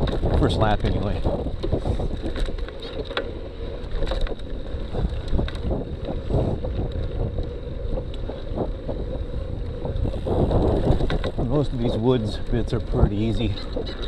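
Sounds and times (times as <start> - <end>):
bike clicks and rattles: 0.0 - 14.0
wind buffeting microphone: 0.0 - 14.0.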